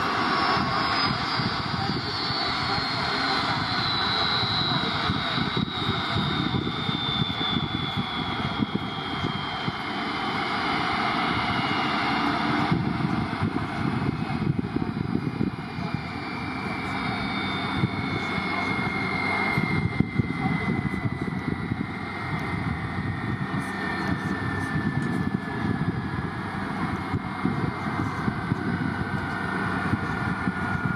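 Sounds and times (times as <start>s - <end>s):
high engine whine: 0.0s - 30.9s
jet engines rumbling: 0.0s - 30.9s.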